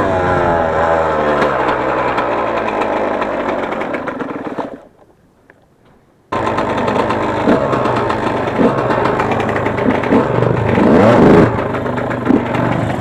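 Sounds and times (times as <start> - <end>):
two-stroke motorcycle engine: 0.0 - 5.0, 6.3 - 13.0.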